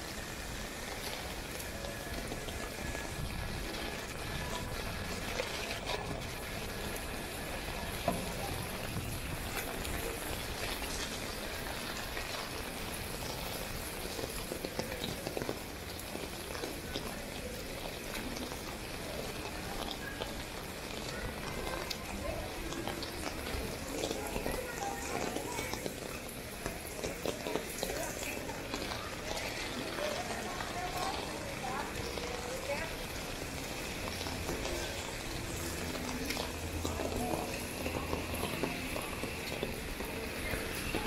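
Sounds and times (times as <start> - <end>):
faint voices: 0.0 - 41.0
rain on street: 0.0 - 41.0
drips and taps: 7.8 - 41.0.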